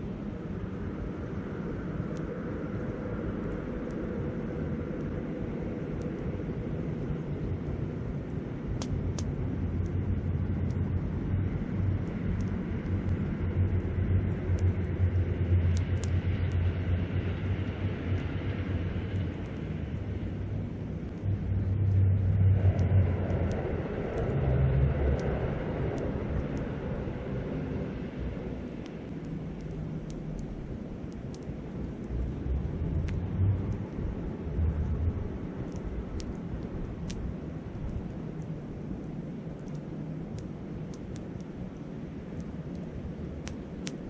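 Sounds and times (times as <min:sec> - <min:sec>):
wind rumbling on microphone: 0:00.0 - 0:44.0
campfire crackling: 0:00.2 - 0:44.0.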